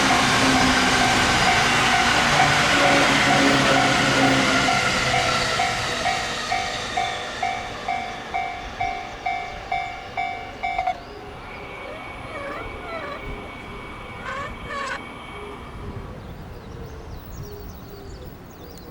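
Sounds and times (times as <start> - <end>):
electric train rumble: 0.0 - 18.4
birds calling: 0.0 - 18.9.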